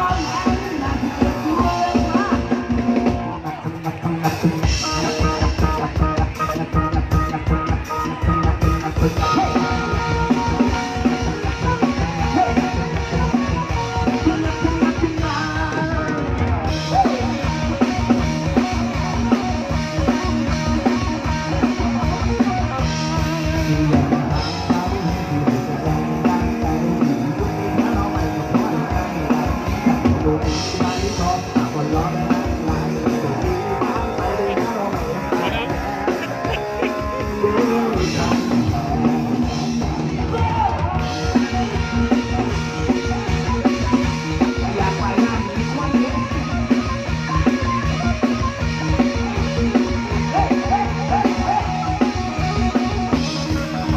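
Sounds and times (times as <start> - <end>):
drum kit: 0.0 - 53.9
electric guitar: 0.0 - 53.9.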